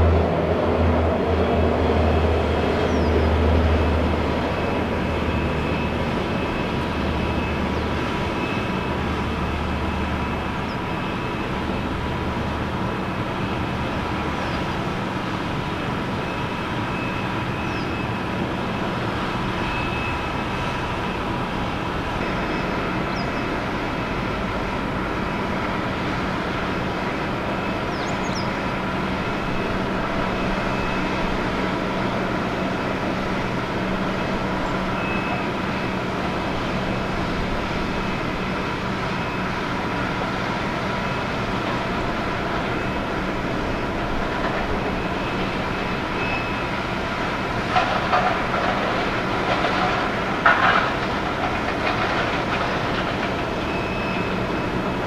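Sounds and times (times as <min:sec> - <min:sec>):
high engine whine: 0:00.0 - 0:55.0
jet engines rumbling: 0:00.0 - 0:55.0.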